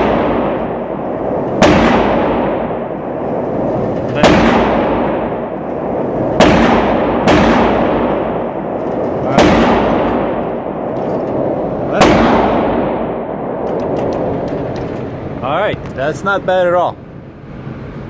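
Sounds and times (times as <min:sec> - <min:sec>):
gunshots with echoing tail: 0:00.0 - 0:15.4.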